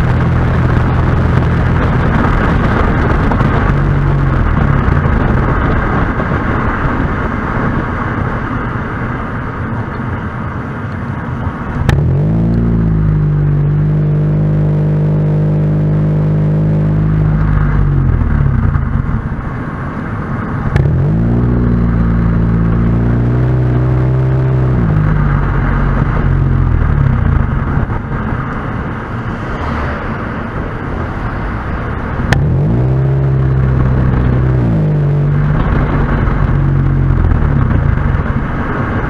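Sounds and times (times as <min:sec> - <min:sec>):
car engine droning: 0:00.0 - 0:39.0
road noise: 0:00.0 - 0:39.0.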